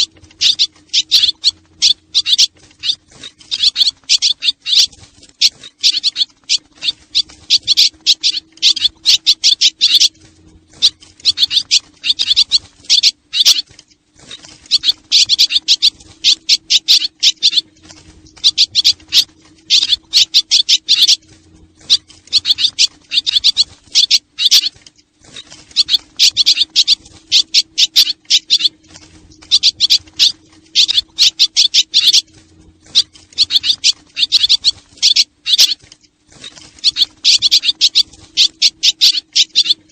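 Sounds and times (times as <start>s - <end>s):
faint steady low hum: 0.0s - 39.9s
swallows twittering: 0.0s - 39.9s.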